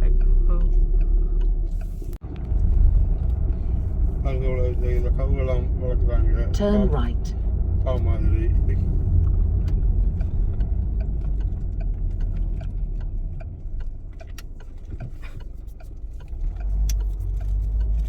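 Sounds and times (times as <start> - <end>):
vehicle rumble from inside cabin: 0.0 - 18.0.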